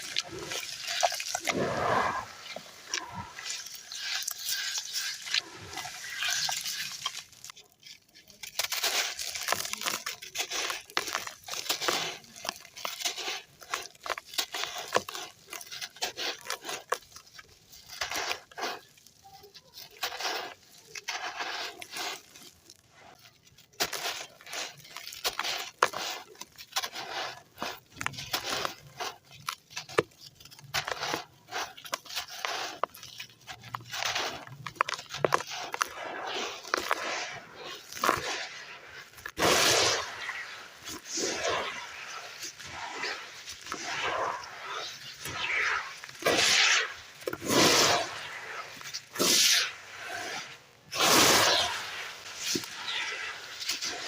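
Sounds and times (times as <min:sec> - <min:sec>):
sand clumps crumbling in water: 0:00.0 - 0:54.0.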